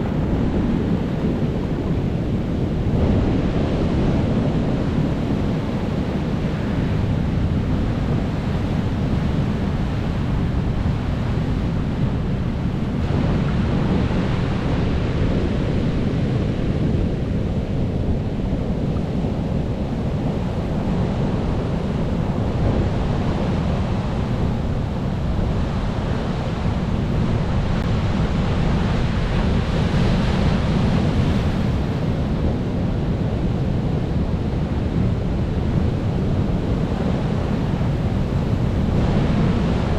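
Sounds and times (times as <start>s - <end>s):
ocean waves washing ashore: 0.0s - 39.9s
wind on microphone: 0.0s - 39.9s.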